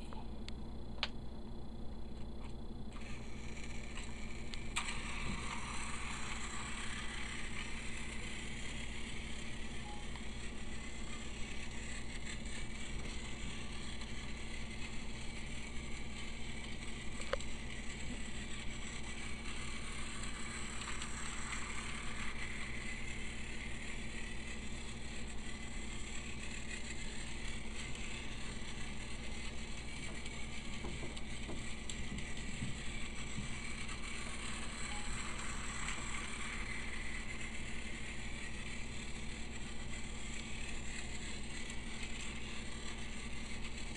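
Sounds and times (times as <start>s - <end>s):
toy train motor whirring: 2.9s - 43.9s.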